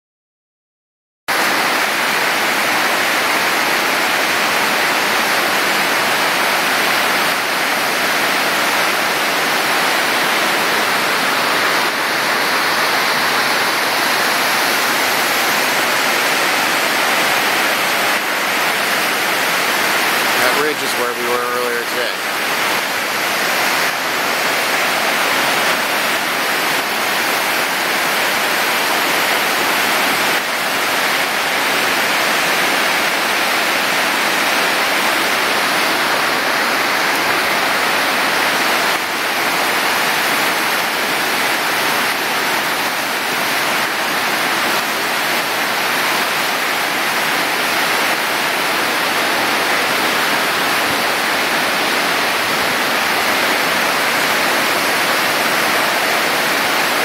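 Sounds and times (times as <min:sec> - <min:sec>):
whitewater rapids rushing: 0:01.3 - 0:57.0.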